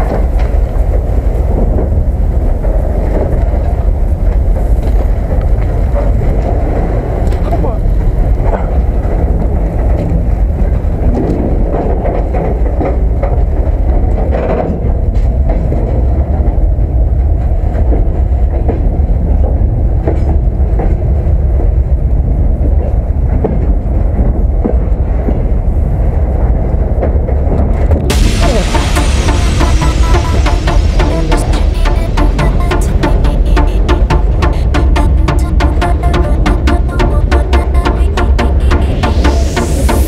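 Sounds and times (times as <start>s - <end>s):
freight train rumbling: 0.0s - 40.0s.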